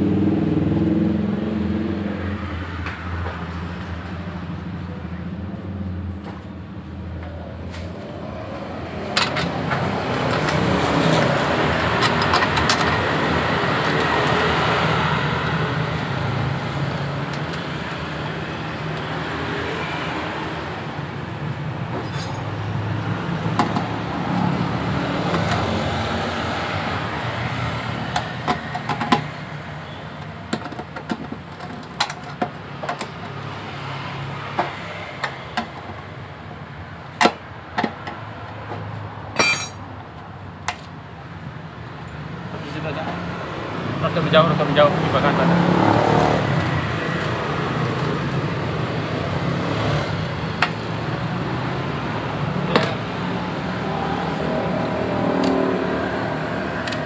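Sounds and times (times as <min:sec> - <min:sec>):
vehicle engines rumbling: 0:00.0 - 0:57.0.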